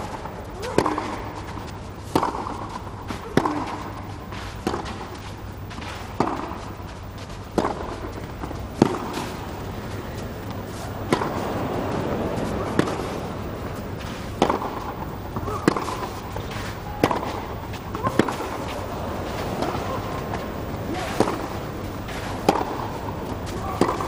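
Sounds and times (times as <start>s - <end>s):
steady background noise: 0.0s - 24.0s
tennis ball hit by racket: 0.1s - 24.0s.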